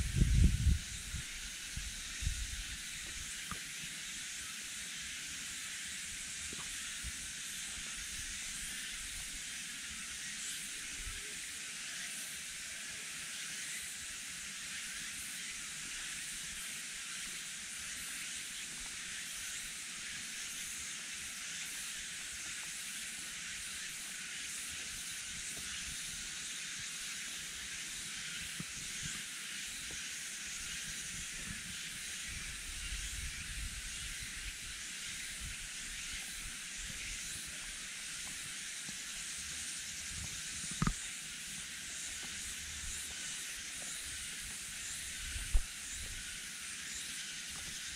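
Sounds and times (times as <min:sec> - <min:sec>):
insect chorus hissing: 0:00.0 - 0:47.9.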